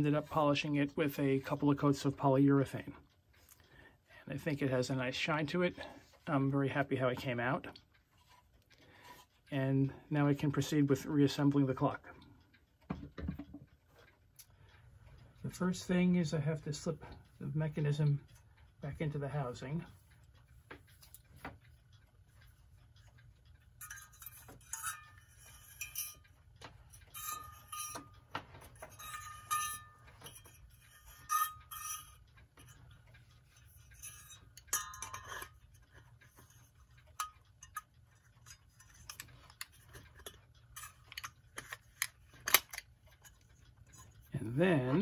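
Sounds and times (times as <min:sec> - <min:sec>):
clock mechanism clicking and rattling: 0:00.0 - 0:45.0.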